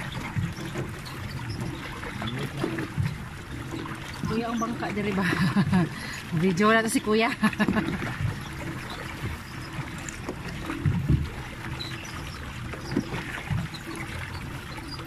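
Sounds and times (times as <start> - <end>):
low rumble of water and wind: 0.0 - 15.0.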